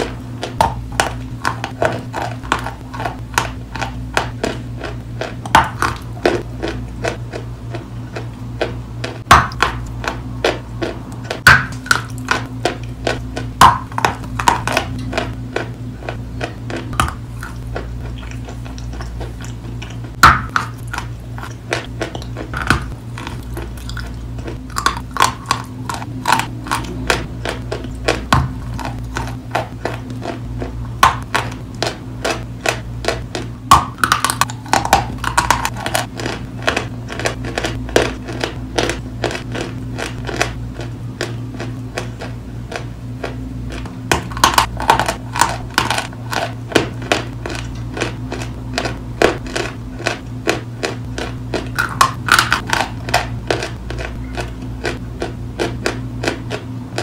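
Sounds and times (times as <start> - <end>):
chewing with crisp crunches: 0.0 - 57.0
steady low hum: 0.0 - 57.0.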